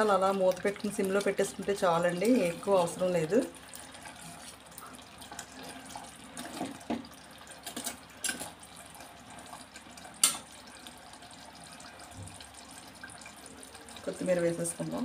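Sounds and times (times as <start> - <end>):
thick curry bubbling: 0.0 - 14.2.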